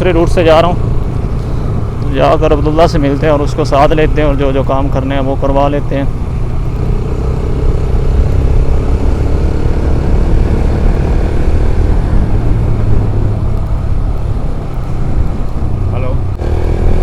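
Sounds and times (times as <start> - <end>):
motorcycle running: 0.0 - 17.0
wind rumble on microphone: 0.0 - 17.0.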